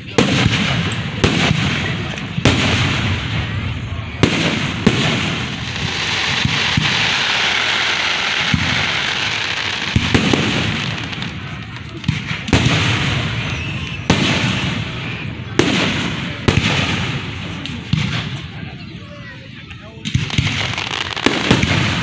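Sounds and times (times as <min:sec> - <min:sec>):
fireworks booms: 0:00.0 - 0:19.2, 0:20.0 - 0:22.0
fireworks crackling hiss: 0:00.0 - 0:22.0.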